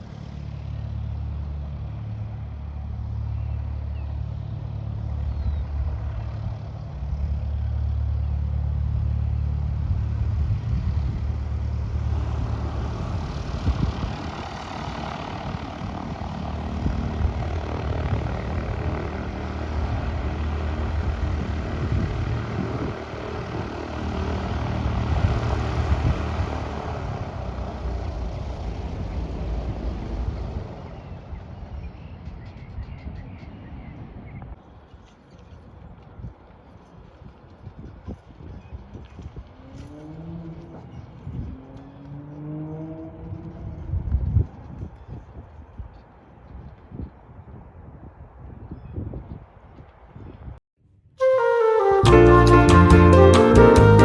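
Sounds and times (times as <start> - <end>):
propeller aircraft engine: 0.0 - 46.2.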